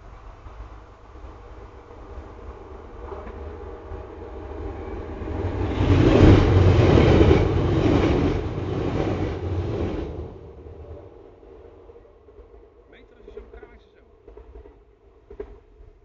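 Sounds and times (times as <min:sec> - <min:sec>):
train passing rumble: 0:00.0 - 0:16.0.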